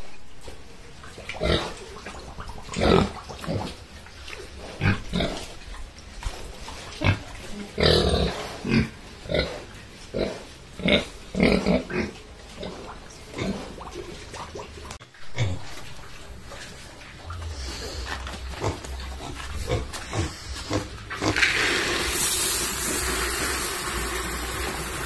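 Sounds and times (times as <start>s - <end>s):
pigs grunting: 1.2s - 21.7s.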